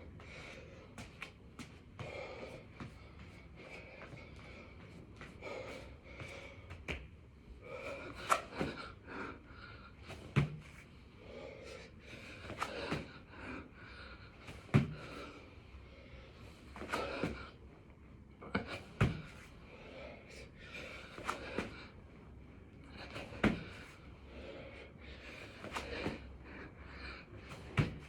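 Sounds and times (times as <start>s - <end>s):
man breathing heavily: 0.0s - 28.0s.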